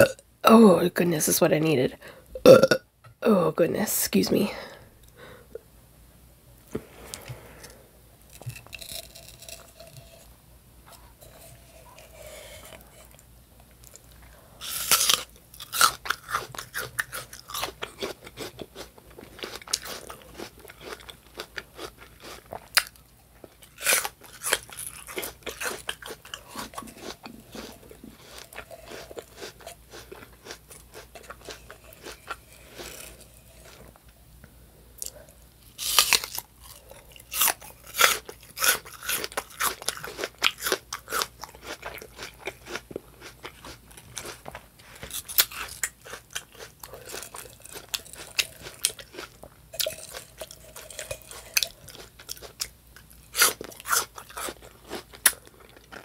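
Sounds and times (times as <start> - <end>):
person chewing crisp apple: 6.7 - 10.3, 10.9 - 34.0, 35.0 - 56.0.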